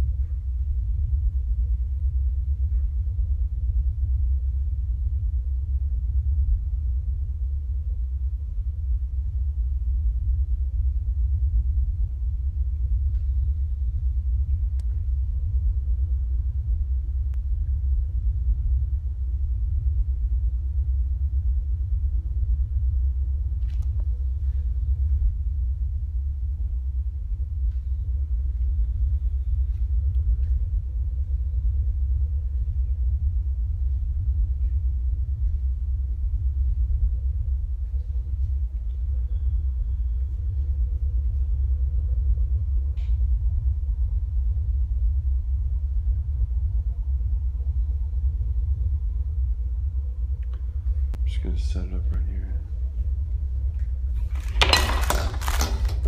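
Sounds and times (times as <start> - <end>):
loud low rumble: 0.0 - 56.0.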